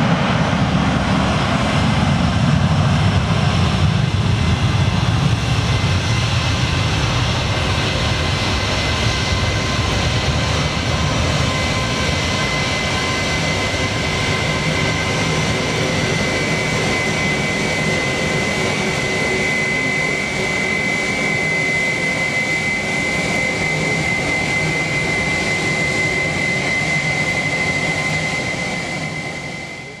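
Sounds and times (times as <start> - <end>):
jet engines at takeoff: 0.0 - 30.0.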